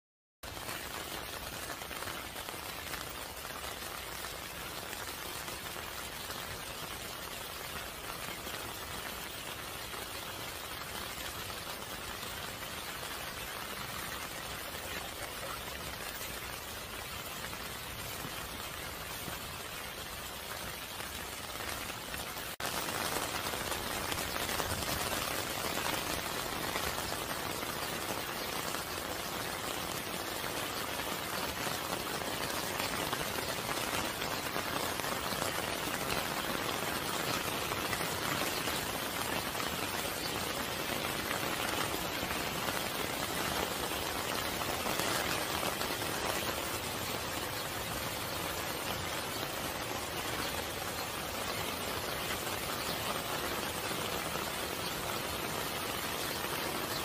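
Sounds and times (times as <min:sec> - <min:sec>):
steady rain falling: 0:00.4 - 0:57.0.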